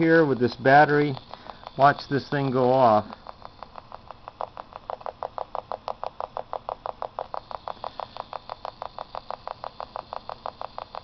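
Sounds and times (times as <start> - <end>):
fast ticking from radio: 0.0 - 11.0.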